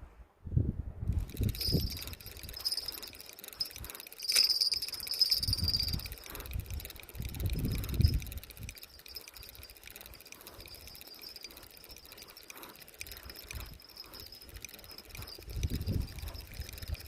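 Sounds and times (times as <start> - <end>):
insects chirping: 1.2 - 17.0.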